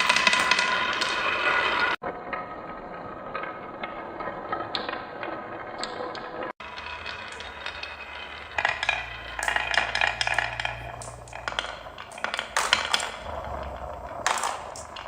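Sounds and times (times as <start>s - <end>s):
marbles rolling down wooden run: 0.0s - 15.0s.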